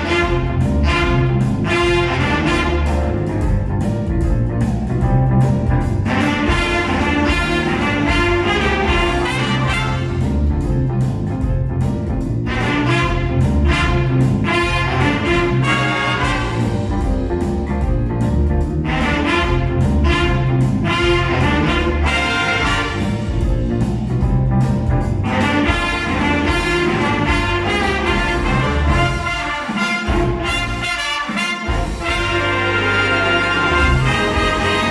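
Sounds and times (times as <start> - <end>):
instrumental ensemble playing: 0.0 - 34.9.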